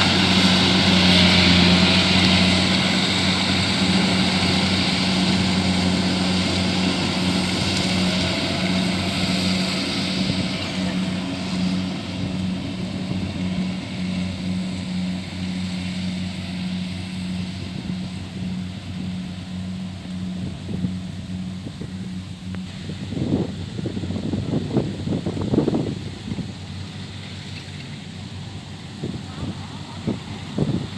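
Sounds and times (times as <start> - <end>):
combine harvester diesel engine: 0.0 - 30.9.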